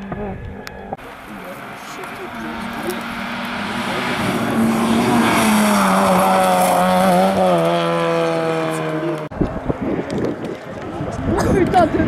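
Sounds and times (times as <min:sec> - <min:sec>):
rally car engine passing at full throttle: 0:01.1 - 0:12.0.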